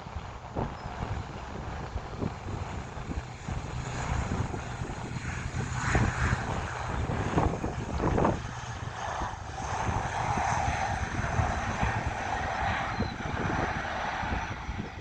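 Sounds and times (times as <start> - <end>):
low gusty rumble: 0.0 - 15.0
turboprop engines drone: 0.0 - 15.0.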